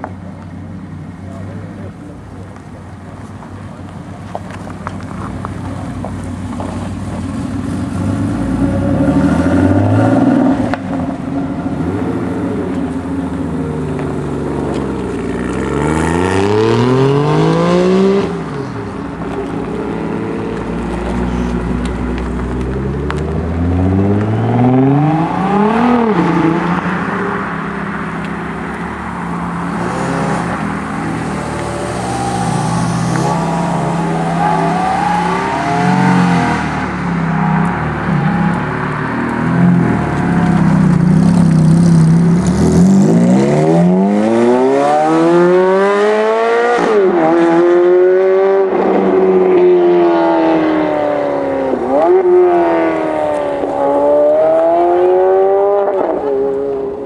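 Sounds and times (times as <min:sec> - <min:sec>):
sports cars accelerating hard: 0:01.3 - 0:57.0.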